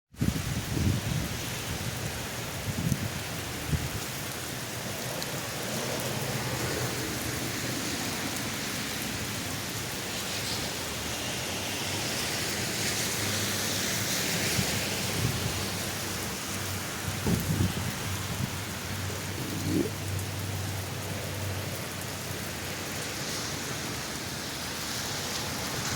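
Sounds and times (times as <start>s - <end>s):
heavy rain falling: 0.2s - 25.9s.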